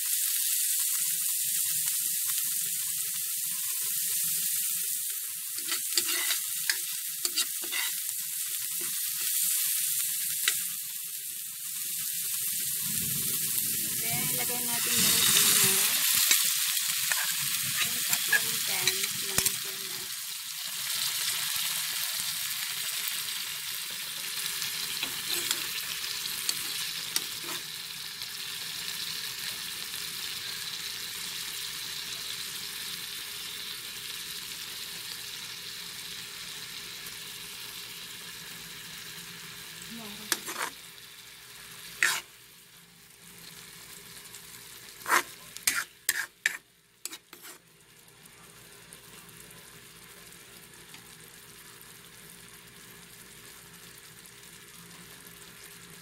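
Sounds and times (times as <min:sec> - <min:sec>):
garlic sizzling in oil: 0:00.0 - 0:56.0.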